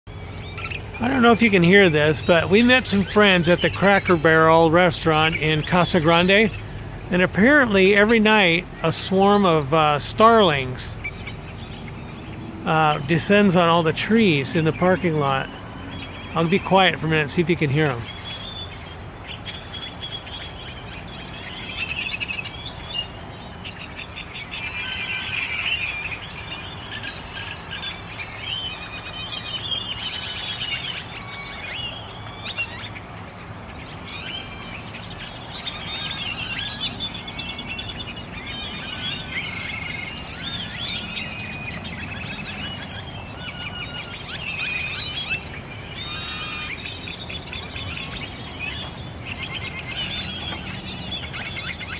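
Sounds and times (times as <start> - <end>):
starling flock chorus: 0.1 - 51.9.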